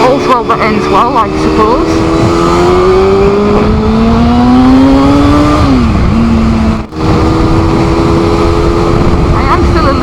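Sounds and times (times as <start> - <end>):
motorcycle engine revving: 0.0 - 10.0
wind rush on microphone: 0.0 - 10.0.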